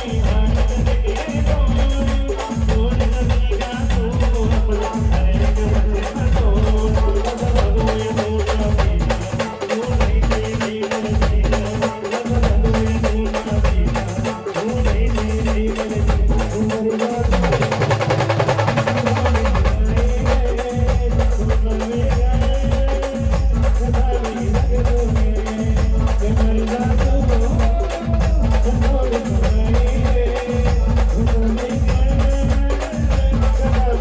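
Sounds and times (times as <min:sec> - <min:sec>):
fast drum beat: 0:00.0 - 0:34.0.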